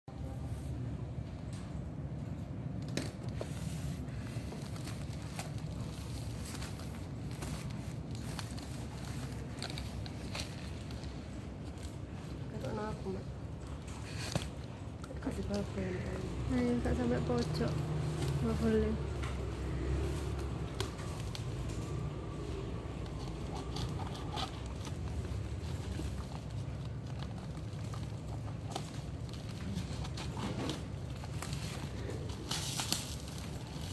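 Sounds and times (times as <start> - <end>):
steady low rumble: 0.1 - 33.9
packaging clicks and crackles: 2.7 - 33.9.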